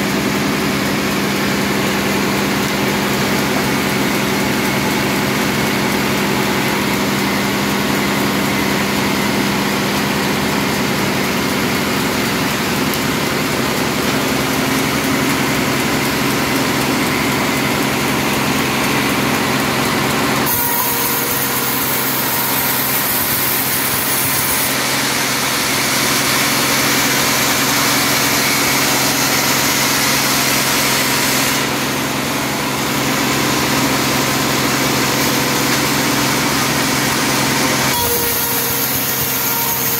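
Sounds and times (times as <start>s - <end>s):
band saw running: 0.0s - 39.9s
saw blade cutting log: 0.2s - 39.9s.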